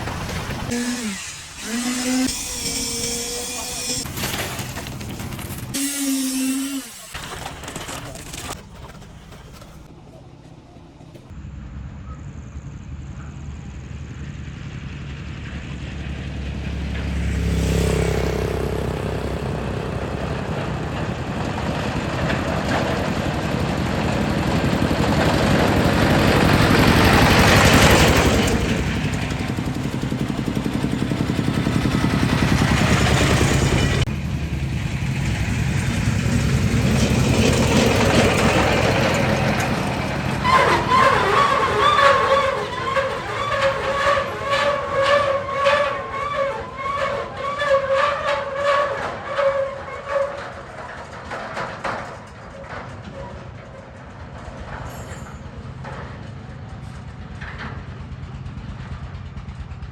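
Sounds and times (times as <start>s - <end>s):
motor engine running: 0.0s - 48.7s.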